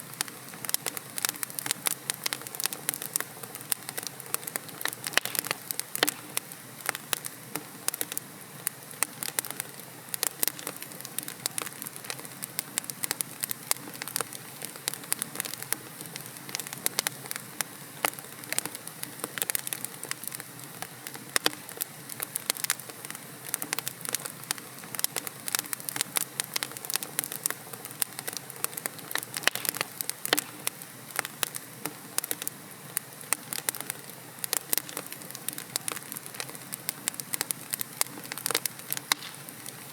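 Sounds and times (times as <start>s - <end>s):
fire crackling and popping: 0.0s - 39.9s
soft hiss of flames: 0.0s - 39.9s.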